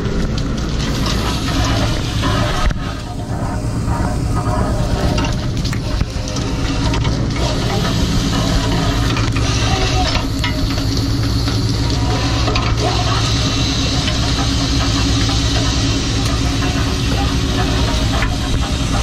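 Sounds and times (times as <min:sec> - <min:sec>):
boat engine humming: 0:00.0 - 0:19.0
wind and water hissing: 0:00.5 - 0:19.0.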